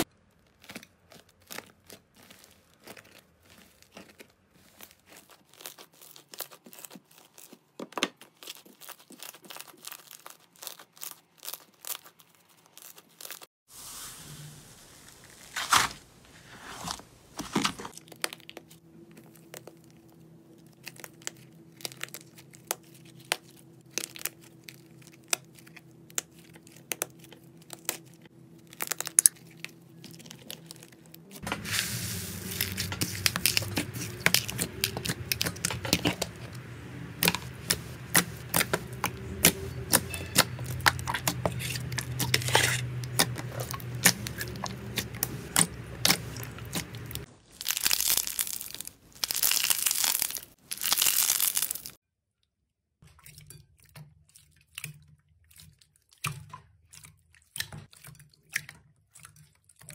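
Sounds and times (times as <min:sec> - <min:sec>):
clay crust crackling: 0:00.0 - 0:52.0.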